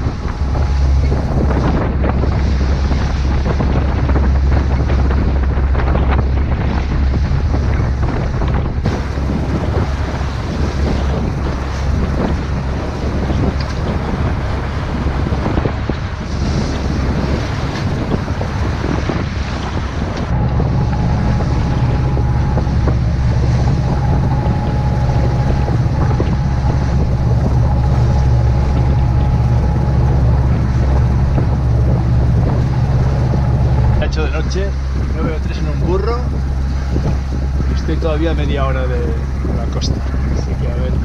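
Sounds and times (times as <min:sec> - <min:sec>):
boat engine drone: 0:00.0 - 0:41.0
wind and waves rushing: 0:00.0 - 0:41.0
wind buffeting microphone: 0:00.0 - 0:41.0.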